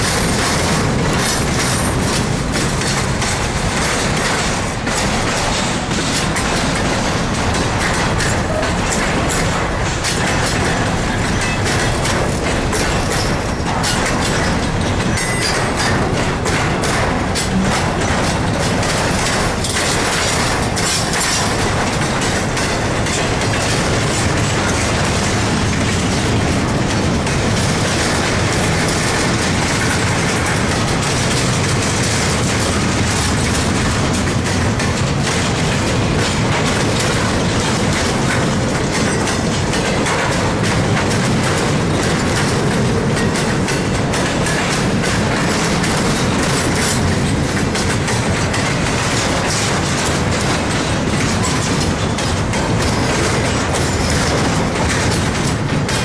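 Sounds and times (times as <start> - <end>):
train rumbling and rattling on rails: 0.0 - 56.0
train wheel clicks and knocks: 0.0 - 56.0.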